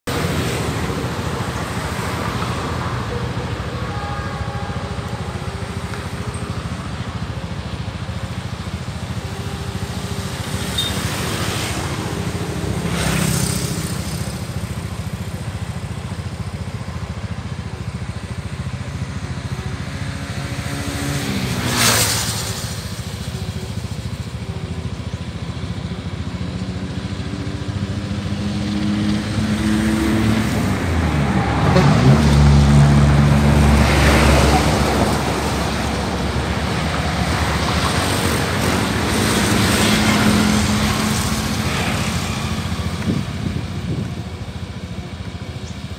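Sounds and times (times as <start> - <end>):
motor vehicles passing: 0.0 - 45.9.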